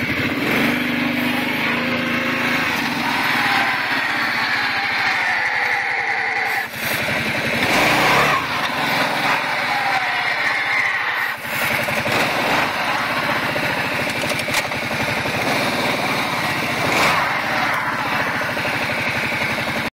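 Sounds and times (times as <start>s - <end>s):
atv engine revving: 0.0s - 19.9s
grinding noise: 0.0s - 19.9s.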